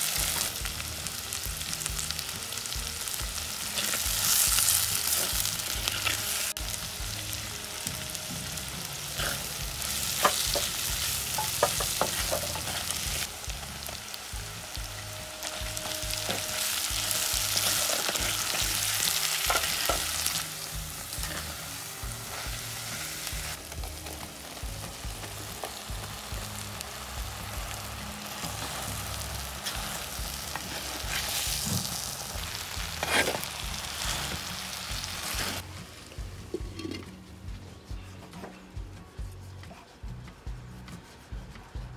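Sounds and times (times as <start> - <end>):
vegetables sizzling in hot oil: 0.0 - 35.6.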